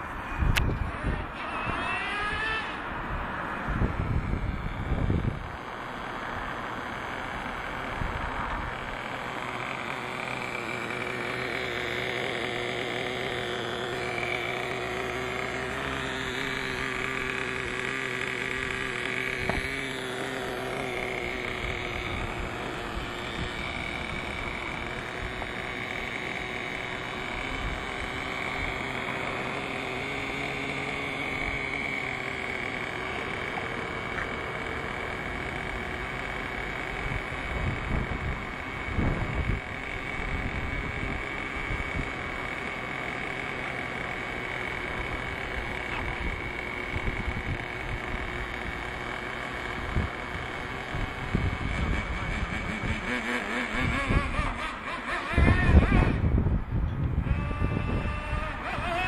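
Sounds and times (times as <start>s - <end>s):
nitro engine running: 0.0s - 59.0s.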